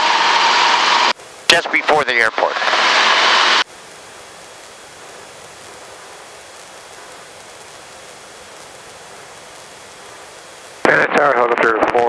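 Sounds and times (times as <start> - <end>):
intercom hiss: 0.0 - 12.0
radio static burst: 0.0 - 12.0.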